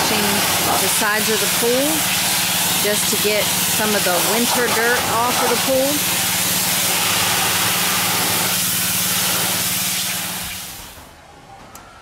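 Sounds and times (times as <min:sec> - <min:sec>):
high-pressure spray hissing on a wall: 0:00.0 - 0:11.0
pressure washer motor hum: 0:00.0 - 0:11.0.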